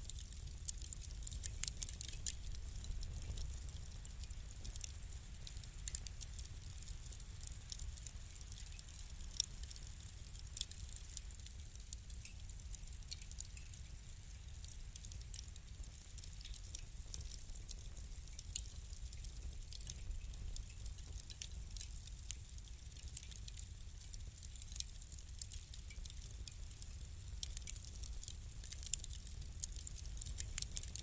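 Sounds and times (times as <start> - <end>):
low steady fire rumble: 0.0 - 31.0
wood fire crackling and popping: 0.0 - 31.0.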